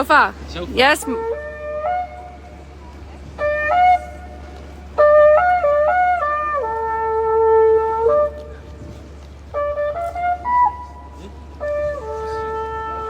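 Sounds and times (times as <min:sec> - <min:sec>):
shofar blasts: 0:01.0 - 0:13.0.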